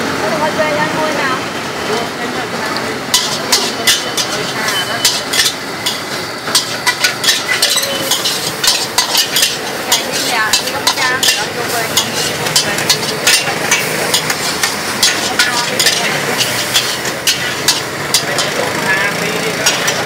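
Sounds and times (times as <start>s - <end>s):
food sizzling: 0.0s - 20.0s
metal spatula scraping a wok: 3.0s - 20.0s.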